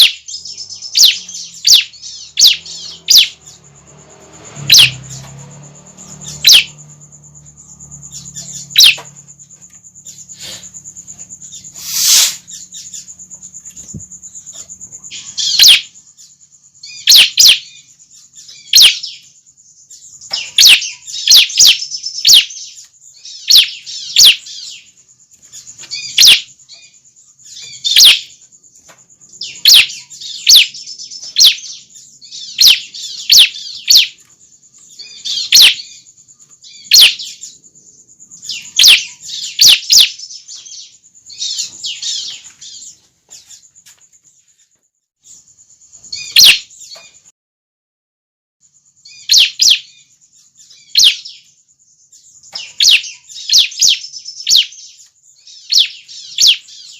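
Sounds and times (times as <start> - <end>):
birds chirping: 0.0 - 47.3, 48.6 - 56.9.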